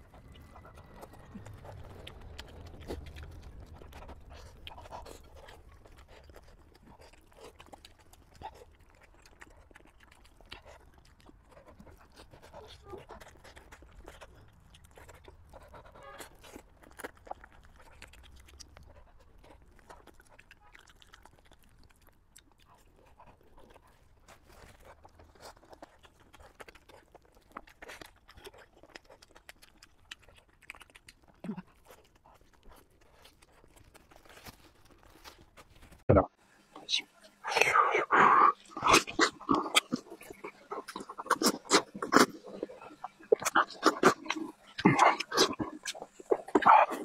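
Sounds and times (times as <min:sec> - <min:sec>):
small crunches: 0:00.0 - 0:36.0, 0:37.9 - 0:47.0
person chewing wetly: 0:00.0 - 0:47.0.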